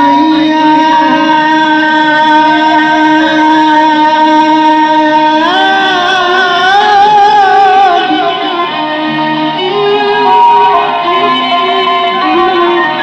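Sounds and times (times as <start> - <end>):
live arabic music held note: 0.0 - 13.0.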